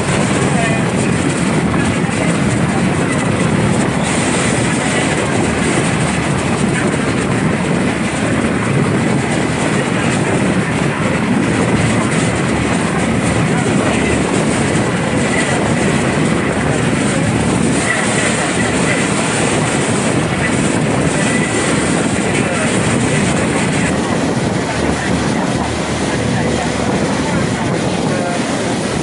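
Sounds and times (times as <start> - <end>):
boat engine running: 0.0 - 29.0
water rumbling: 0.0 - 29.0.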